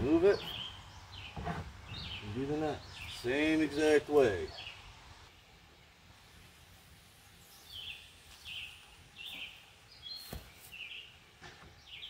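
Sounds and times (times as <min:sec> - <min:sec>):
bird chirping: 0:00.0 - 0:06.0, 0:07.3 - 0:12.0
outdoor background noise: 0:00.0 - 0:12.0.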